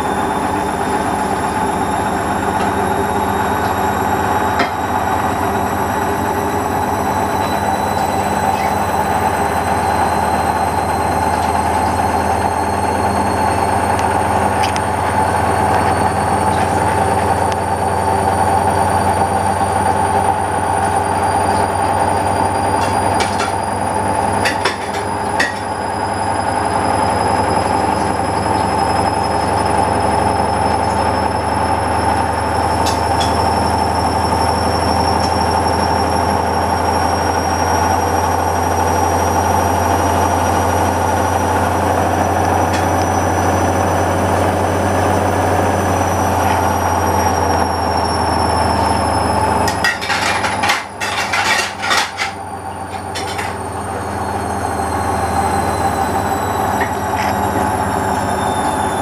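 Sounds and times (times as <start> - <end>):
washing machine drum rumbling: 0.0 - 54.2
high motor whine: 0.0 - 59.0.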